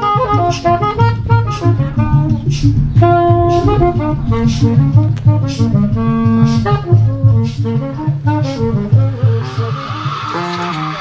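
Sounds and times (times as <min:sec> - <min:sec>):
backing track with bass and beat: 0:00.0 - 0:11.0
saxophone playing: 0:00.0 - 0:11.0.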